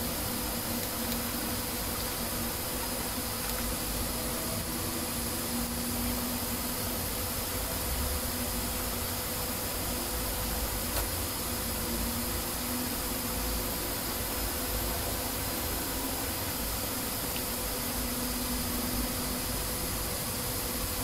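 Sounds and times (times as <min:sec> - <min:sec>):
faint buzzing hum: 0:00.0 - 0:21.0
steady background hiss: 0:00.0 - 0:21.0.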